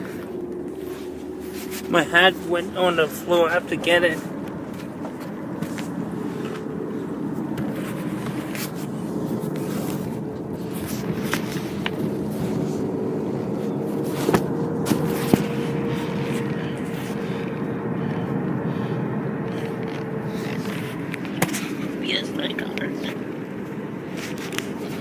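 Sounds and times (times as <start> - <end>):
car cabin engine and road noise: 0.0 - 25.0.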